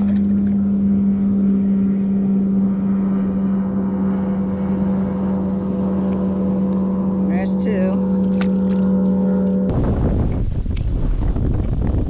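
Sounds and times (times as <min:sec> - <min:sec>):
boat motor droning: 0:00.0 - 0:12.0.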